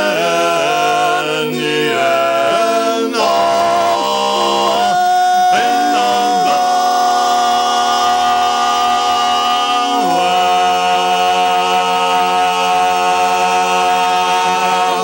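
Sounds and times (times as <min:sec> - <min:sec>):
men singing a cappella: 0:00.0 - 0:15.0.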